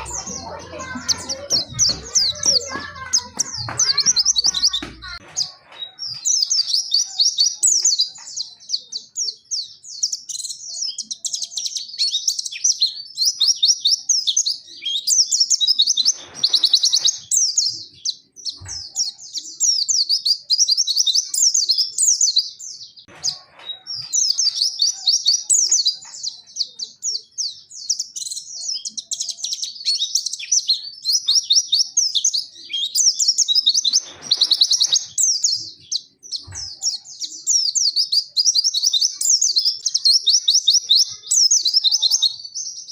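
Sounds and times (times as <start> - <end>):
bird warbling song: 0.0 - 42.9.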